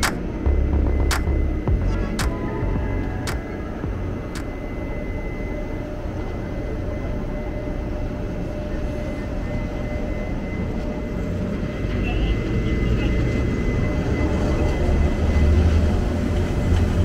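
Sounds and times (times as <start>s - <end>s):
electric locomotive droning: 0.0s - 17.0s.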